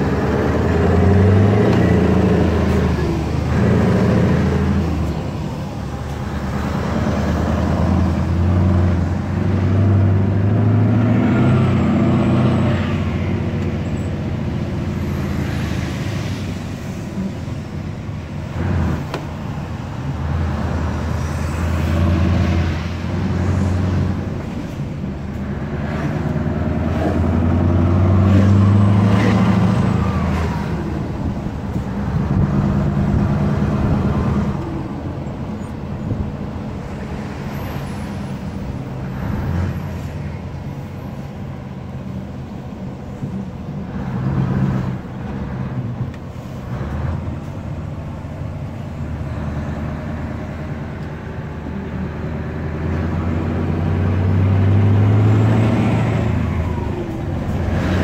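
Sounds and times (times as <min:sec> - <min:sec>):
truck engine hum from cab: 0:00.0 - 0:58.0.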